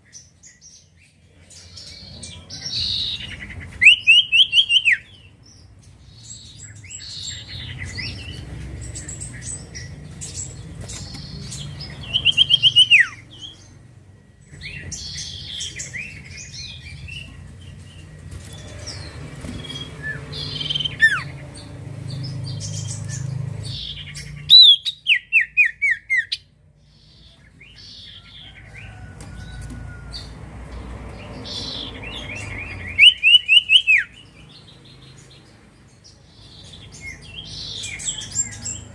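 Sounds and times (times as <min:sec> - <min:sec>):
bird chirps: 0:00.0 - 0:30.3, 0:31.2 - 0:38.9.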